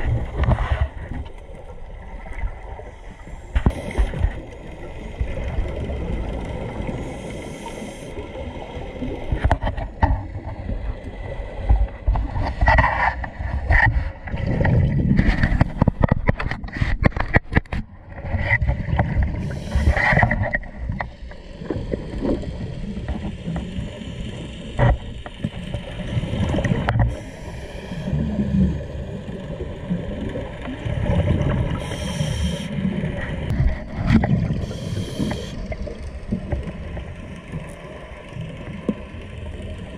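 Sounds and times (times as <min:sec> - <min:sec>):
underwater rumble and handling noise: 0:00.0 - 0:39.9.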